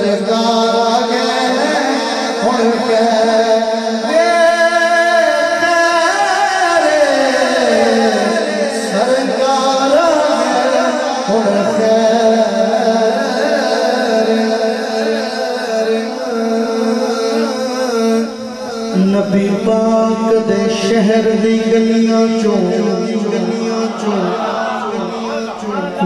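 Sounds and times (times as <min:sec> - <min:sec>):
man singing into microphone: 0:00.0 - 0:26.0.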